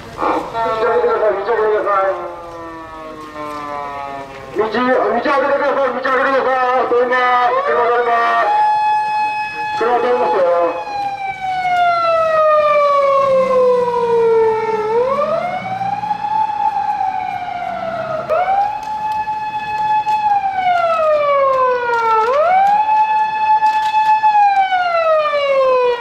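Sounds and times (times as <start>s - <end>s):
police car siren wailing: 0.2s - 26.0s.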